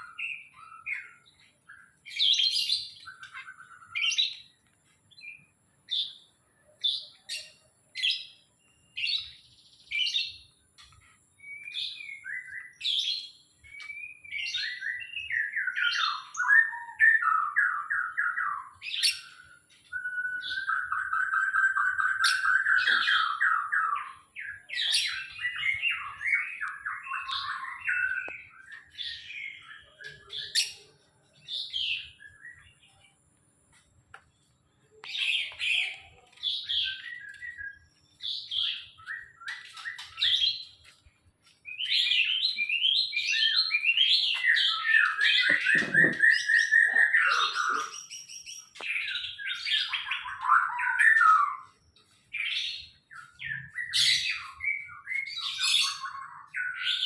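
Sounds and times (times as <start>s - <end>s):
songbird chirping and trilling: 0.0s - 57.0s.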